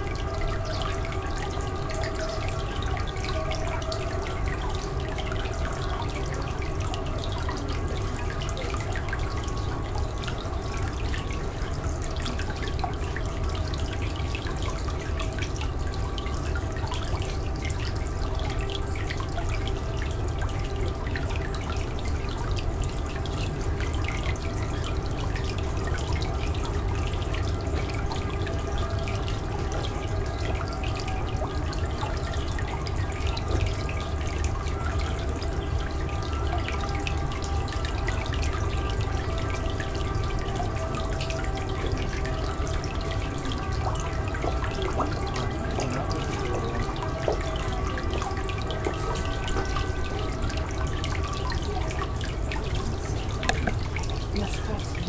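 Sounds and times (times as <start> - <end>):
held drone tones: 0.0 - 55.0
running water with drip clicks: 0.0 - 55.0.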